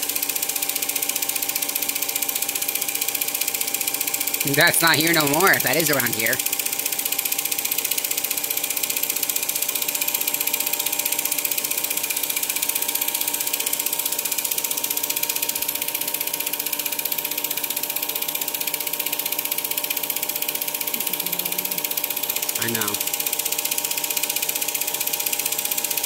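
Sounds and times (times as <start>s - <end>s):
projector motor and fan hum: 0.0s - 26.0s.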